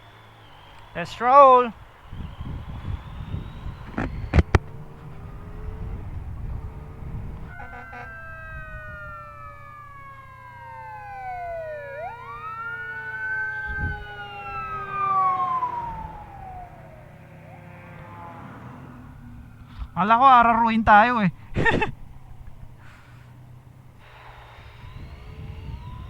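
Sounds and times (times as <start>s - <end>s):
emergency vehicle siren: 0.0s - 26.0s.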